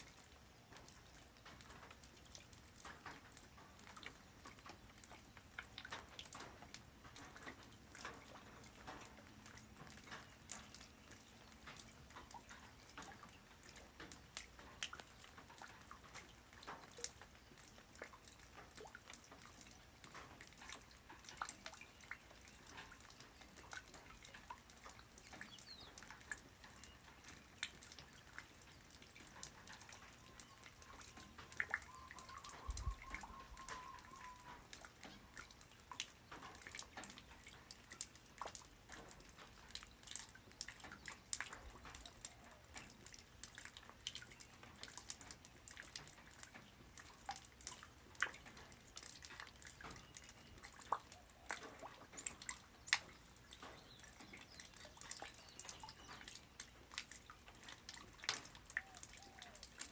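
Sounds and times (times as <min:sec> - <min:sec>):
raindrops ticking: 0:00.0 - 0:59.9.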